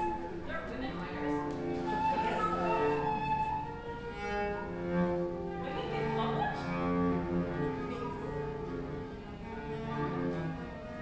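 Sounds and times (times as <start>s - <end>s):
cello bowing sustained notes: 0.0s - 11.0s.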